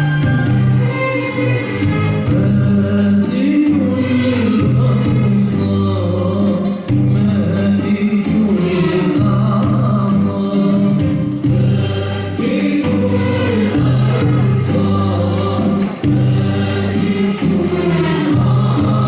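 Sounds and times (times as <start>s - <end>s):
instrumental accompaniment: 0.0s - 19.0s
group voices singing: 0.6s - 19.0s.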